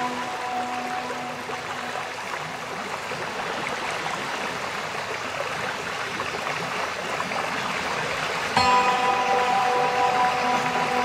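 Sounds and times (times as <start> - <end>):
rushing water hiss: 0.0 - 11.0.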